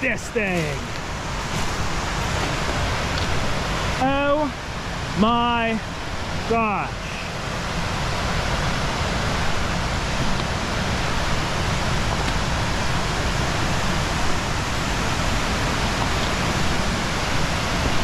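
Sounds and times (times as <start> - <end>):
waterfall crashing: 0.0 - 18.0.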